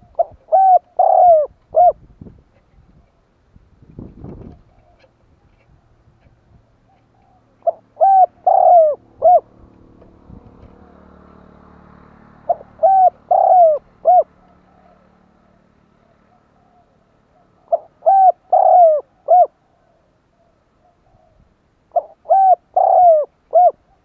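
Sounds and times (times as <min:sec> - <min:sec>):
dove cooing: 0:00.0 - 0:03.2, 0:04.4 - 0:11.6, 0:12.2 - 0:24.0.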